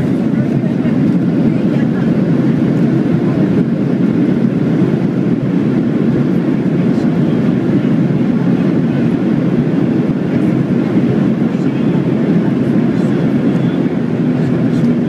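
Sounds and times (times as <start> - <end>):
airplane cabin engine roar: 0.0 - 15.0.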